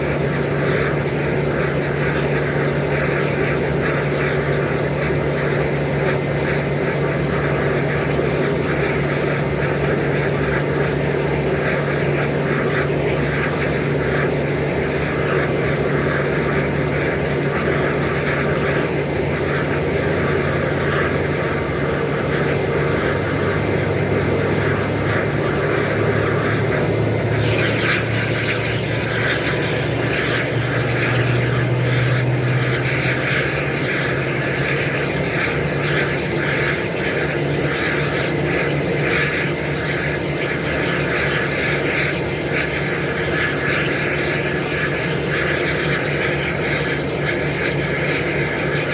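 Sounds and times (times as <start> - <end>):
bright hiss: 0.0 - 48.9
jet engines idling: 0.0 - 48.9.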